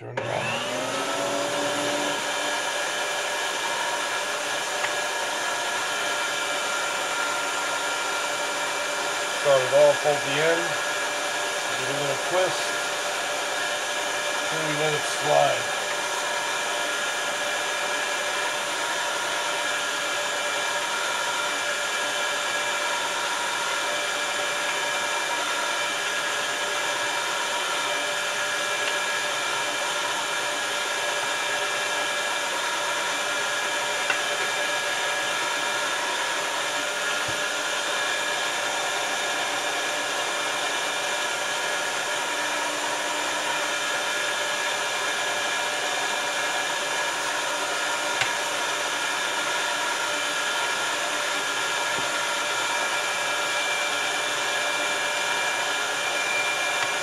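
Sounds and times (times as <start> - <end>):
electric meat grinder whirring: 0.0 - 57.0.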